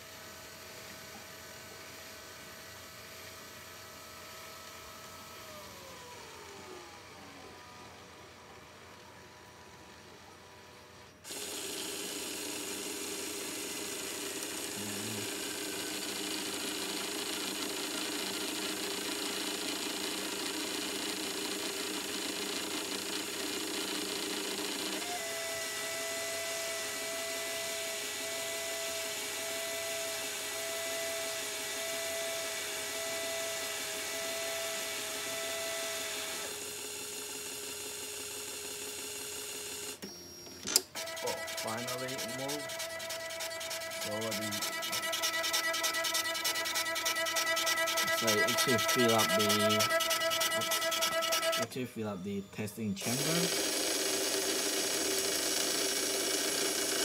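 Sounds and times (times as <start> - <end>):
small motors whining: 0.1 - 57.0.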